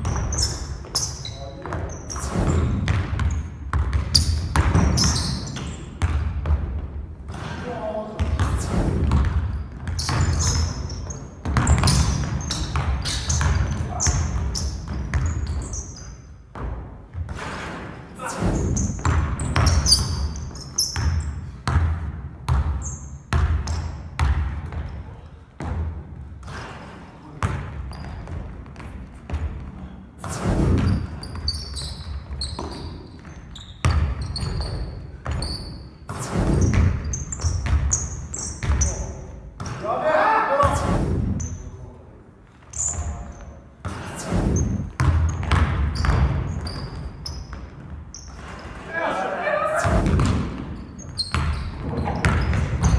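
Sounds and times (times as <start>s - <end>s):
sneaker squeaks: 0.0s - 6.5s, 7.3s - 41.8s, 42.5s - 52.9s
basketball bouncing on gym floor: 0.0s - 39.9s, 42.6s - 48.8s, 49.7s - 52.9s.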